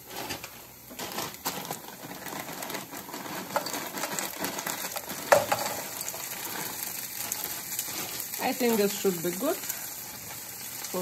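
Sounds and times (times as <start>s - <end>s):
frozen vegetables clattering into pan: 0.0s - 11.0s
vegetables sizzling in hot oil: 0.0s - 11.0s.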